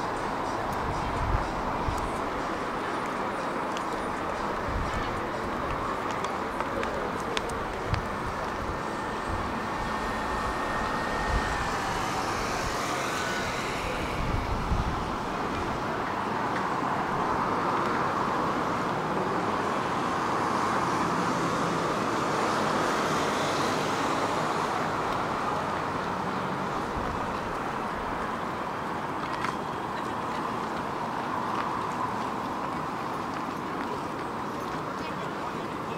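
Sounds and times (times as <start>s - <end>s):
road vehicles passing: 0.0s - 35.9s.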